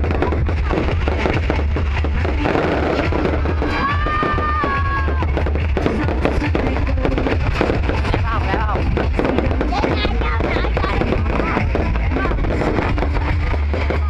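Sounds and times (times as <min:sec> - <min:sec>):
fireworks crackling and popping: 0:00.0 - 0:14.0
music: 0:00.0 - 0:14.0.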